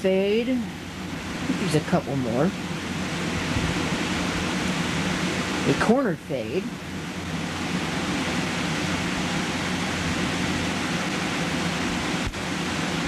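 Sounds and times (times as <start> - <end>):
low hum: 0.0 - 13.0
steady hiss: 0.0 - 13.0.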